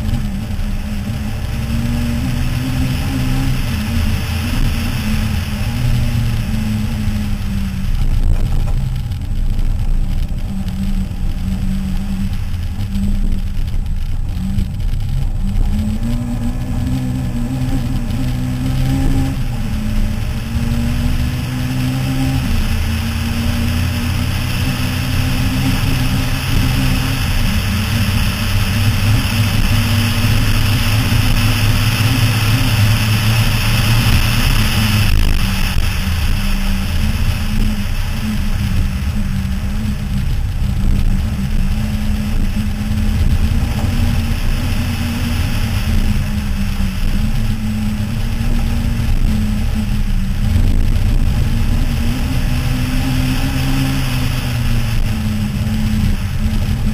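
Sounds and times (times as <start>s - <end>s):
rally car engine at high revs: 0.0s - 56.9s
road and wind noise: 0.0s - 56.9s.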